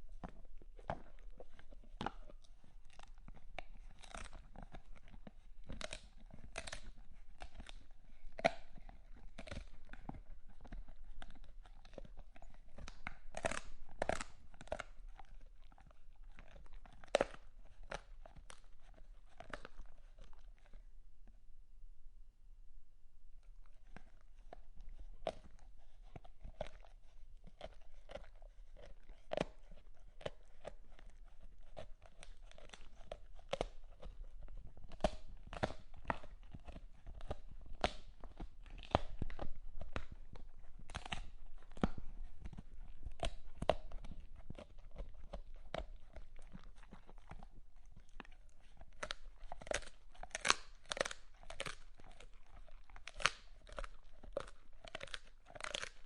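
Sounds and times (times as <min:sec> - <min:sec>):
dog chewing and crunching: 0:00.0 - 0:21.3, 0:23.4 - 0:56.0.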